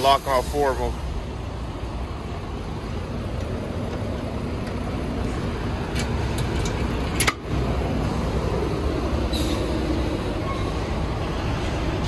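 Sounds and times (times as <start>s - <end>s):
truck engines rumbling: 0.0s - 12.0s.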